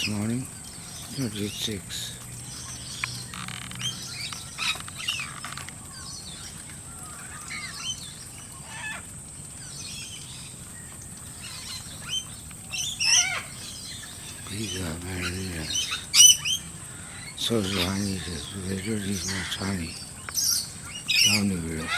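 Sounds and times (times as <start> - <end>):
birds chirping and calling: 0.0 - 21.9.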